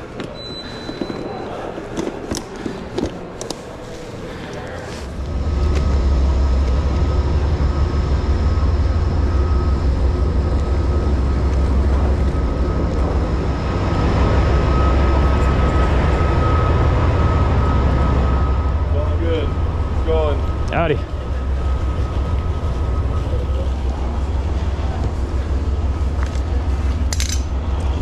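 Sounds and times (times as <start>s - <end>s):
thin steady whine: 0.0s - 28.0s
diesel engine rumble: 4.4s - 28.0s.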